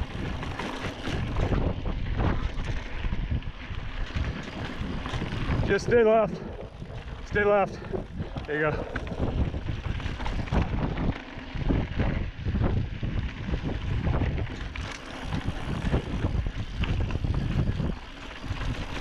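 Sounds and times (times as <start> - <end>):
mountain bike rumbling on dirt trail: 0.0 - 19.0
wind buffeting microphone: 0.0 - 19.0.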